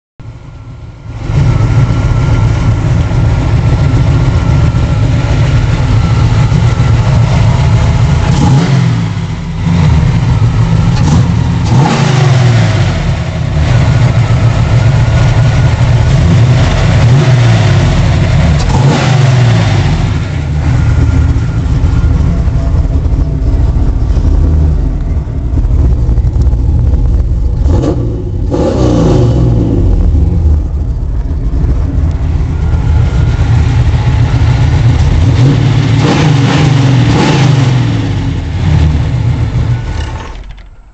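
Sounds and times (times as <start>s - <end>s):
car engine revving: 0.2s - 40.9s.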